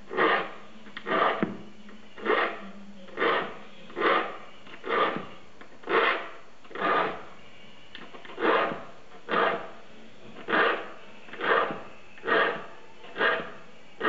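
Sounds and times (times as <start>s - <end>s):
file rasping on saw teeth: 0.1s - 1.5s, 2.2s - 7.3s, 8.2s - 9.8s, 10.4s - 13.6s.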